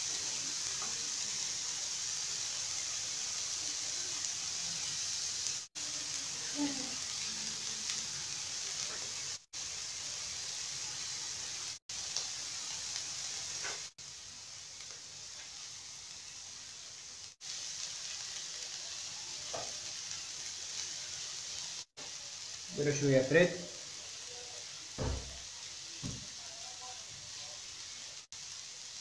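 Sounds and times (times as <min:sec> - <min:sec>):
meat sizzling in oil: 0:00.0 - 0:29.0.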